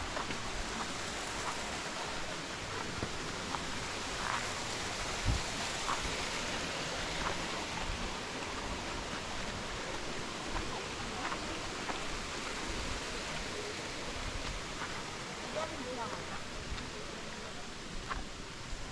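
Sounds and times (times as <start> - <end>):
faint ticks and splashes: 0.0 - 18.9
water rushing: 0.0 - 18.9.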